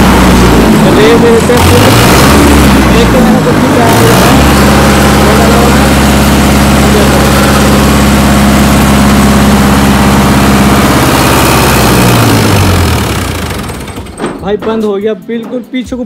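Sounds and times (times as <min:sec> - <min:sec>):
tractor diesel engine stalling: 0:00.0 - 0:16.0.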